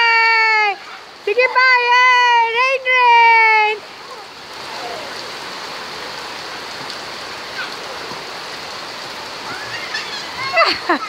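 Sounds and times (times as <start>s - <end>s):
rain on concrete street: 0.0s - 11.0s.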